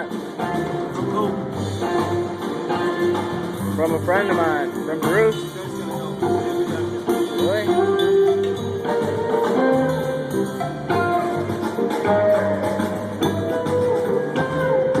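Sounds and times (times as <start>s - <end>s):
bass and drums: 0.0s - 15.0s
electric guitar lead: 0.0s - 15.0s.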